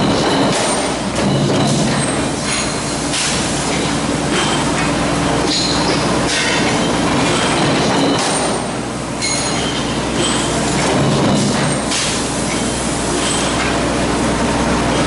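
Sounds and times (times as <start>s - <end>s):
industrial din with low hum: 0.0s - 15.0s.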